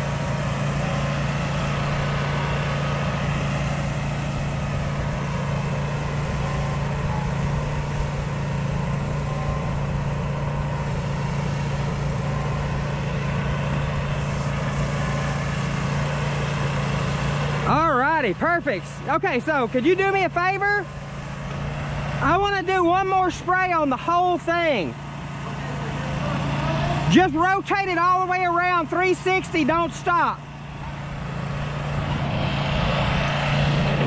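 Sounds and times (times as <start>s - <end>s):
pressure washer engine running: 0.0s - 34.0s.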